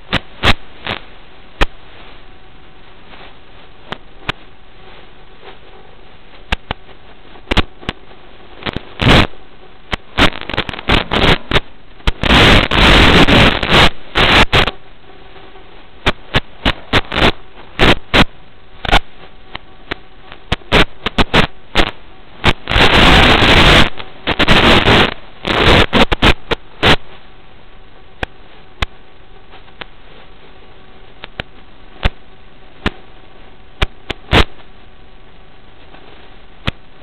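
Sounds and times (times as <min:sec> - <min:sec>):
faint steady hum: 0:00.0 - 0:37.0
hissing radio static: 0:00.0 - 0:37.0.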